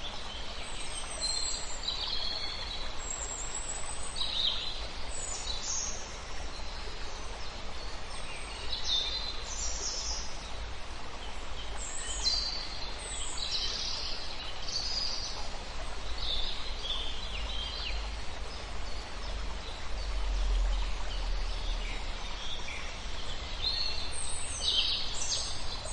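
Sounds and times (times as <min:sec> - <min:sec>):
small birds singing: 0:00.0 - 0:25.9.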